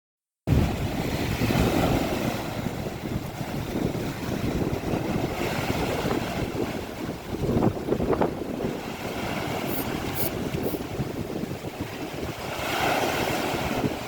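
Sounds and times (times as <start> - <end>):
sea water rushing: 0.5 - 14.0
wind buffeting microphone: 0.5 - 14.0.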